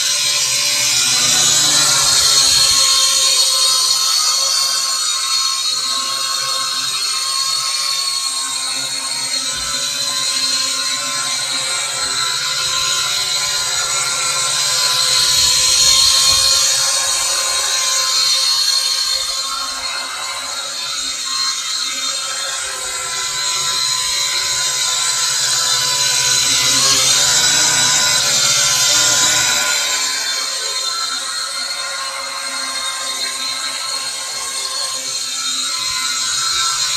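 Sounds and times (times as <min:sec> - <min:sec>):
toy drone motors buzzing: 0:00.0 - 0:36.9.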